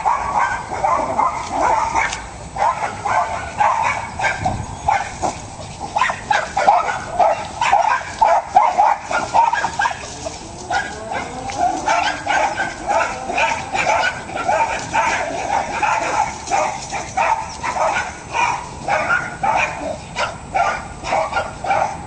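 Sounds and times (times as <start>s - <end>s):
dog yapping: 0.0s - 5.2s, 6.0s - 22.0s.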